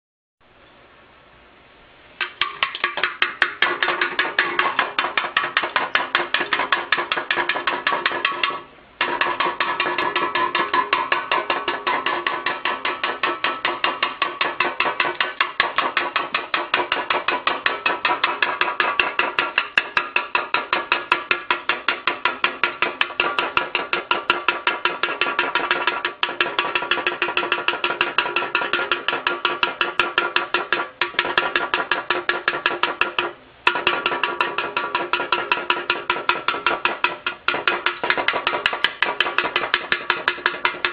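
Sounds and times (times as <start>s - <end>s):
bird pecking metal can: 2.2s - 40.9s.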